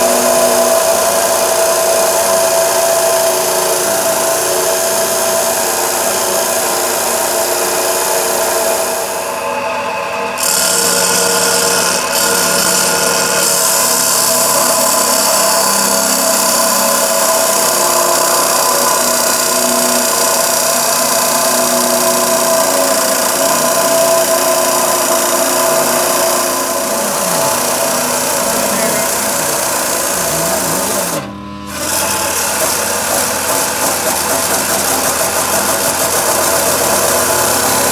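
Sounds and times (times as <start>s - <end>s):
cut-off saw grinding metal: 0.0s - 37.9s
saw motor whine: 0.0s - 37.9s.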